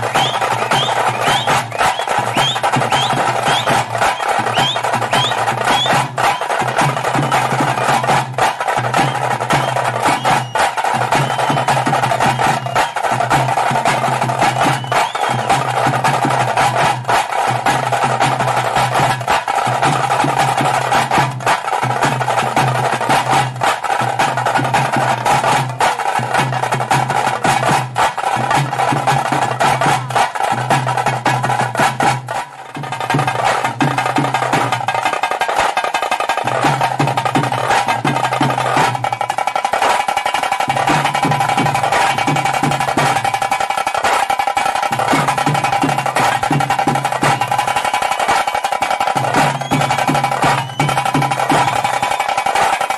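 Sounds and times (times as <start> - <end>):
fast drumming with sticks: 0.0 - 52.9.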